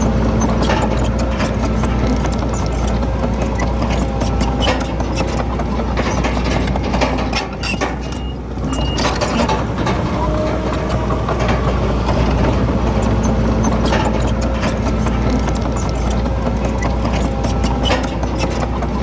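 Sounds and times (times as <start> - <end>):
diesel machinery engine running: 0.0 - 19.0
metallic clanks and knocks: 0.0 - 19.0.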